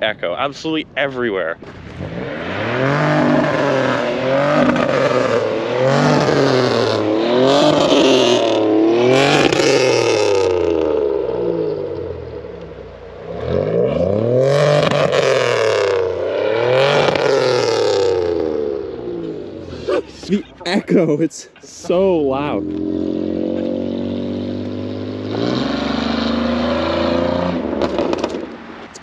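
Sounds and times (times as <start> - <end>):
car engine revving: 1.6 - 29.0.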